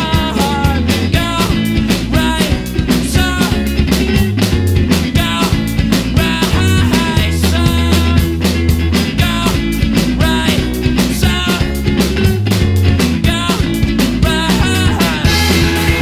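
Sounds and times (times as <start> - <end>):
heavy bass: 0.0 - 16.0
rock music: 0.0 - 16.0
steady drum beat: 0.0 - 16.0.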